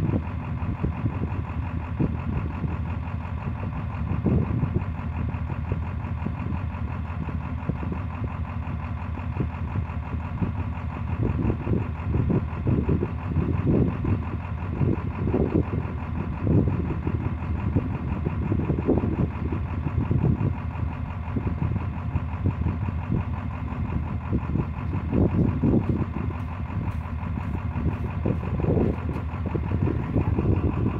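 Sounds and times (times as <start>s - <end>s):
diesel engine running unevenly: 0.0s - 30.9s.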